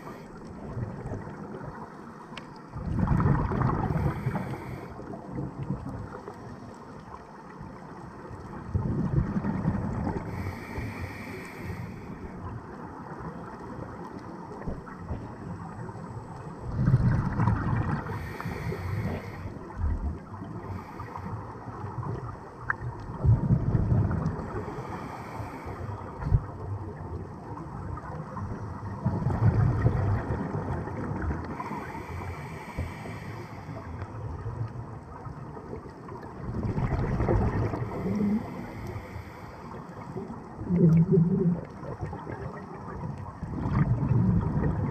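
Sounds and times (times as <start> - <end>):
exhaled air bubbling: 0.0 - 44.9
watery background noise: 0.0 - 44.9.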